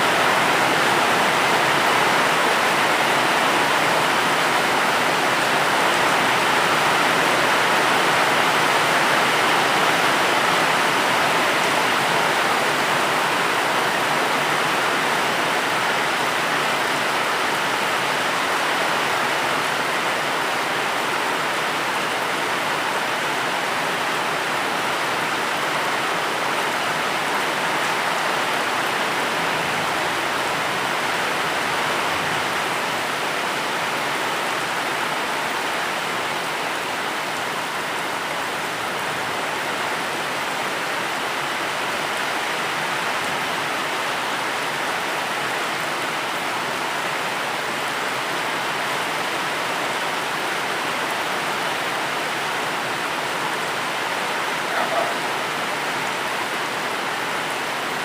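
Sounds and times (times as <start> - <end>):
heavy rainfall: 0.0 - 58.0.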